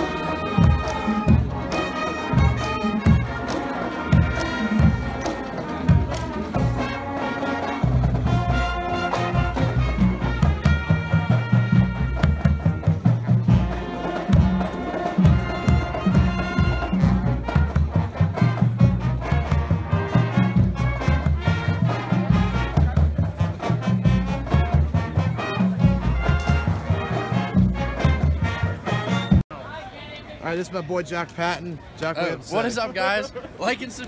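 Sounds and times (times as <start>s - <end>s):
brass band playing: 0.0s - 29.4s.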